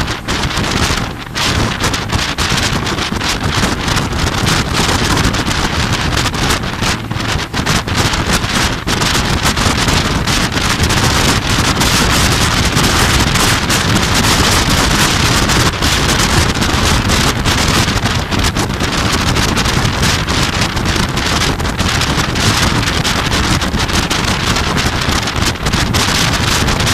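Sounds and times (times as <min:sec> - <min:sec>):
boat wake rushing: 0:00.0 - 0:26.9
motorboat engine: 0:00.0 - 0:26.9
wind buffeting microphone: 0:00.0 - 0:26.9.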